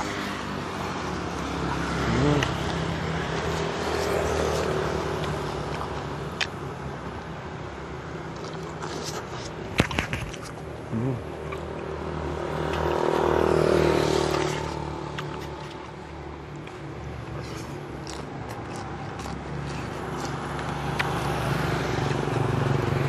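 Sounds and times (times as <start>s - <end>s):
vehicles passing on road: 0.0s - 23.0s.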